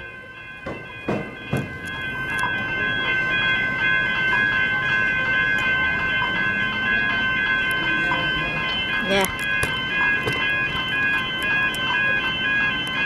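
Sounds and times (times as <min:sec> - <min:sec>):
high-pitched ringing tones: 0:00.0 - 0:13.0
train wheels clacking over crossing: 0:00.4 - 0:13.0.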